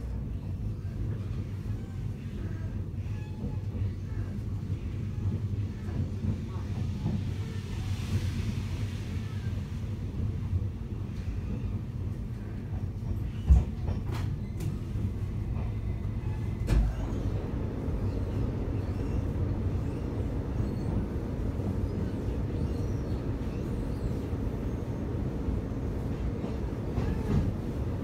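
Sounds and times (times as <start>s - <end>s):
train rumble inside car: 0.0s - 28.0s.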